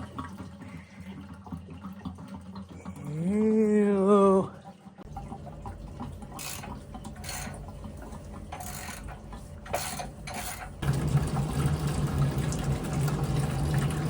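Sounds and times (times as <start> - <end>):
water spurting and running: 0.0 - 14.0.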